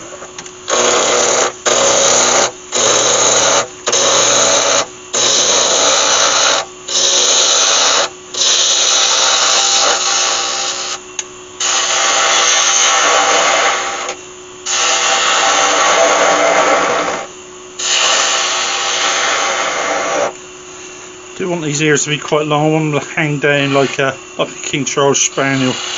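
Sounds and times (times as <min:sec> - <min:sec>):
turning tool cutting wood: 0:00.0 - 0:11.0, 0:11.6 - 0:20.4, 0:21.4 - 0:25.9
wood lathe motor hum: 0:00.0 - 0:25.9.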